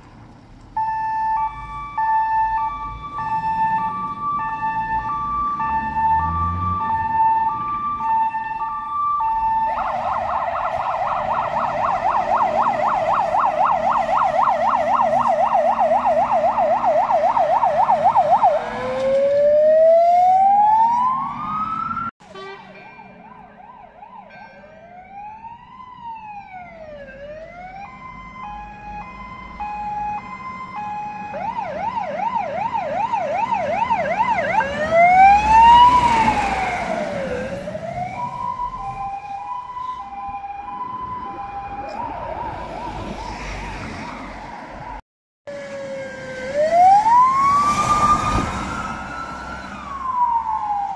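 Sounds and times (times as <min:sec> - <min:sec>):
emergency vehicle sirens: 0:00.0 - 0:50.9
fire engine rumbling: 0:00.0 - 0:50.9.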